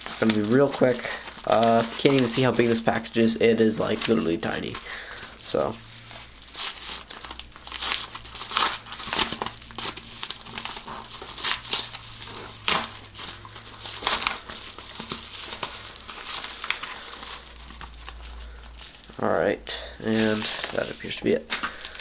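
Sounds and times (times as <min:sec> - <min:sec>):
paper mailer tearing and crinkling: 0:00.0 - 0:22.0.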